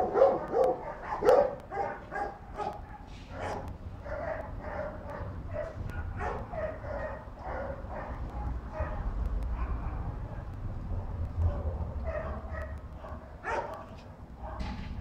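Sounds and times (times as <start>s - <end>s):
dog barking: 0.0s - 10.4s, 11.4s - 14.8s.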